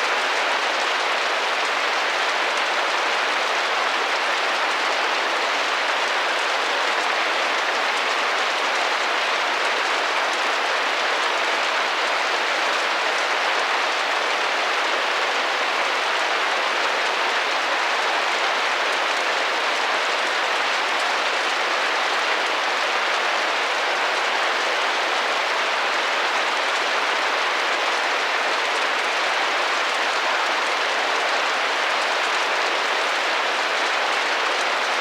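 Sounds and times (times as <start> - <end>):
rain drumming on a window: 0.0 - 35.0.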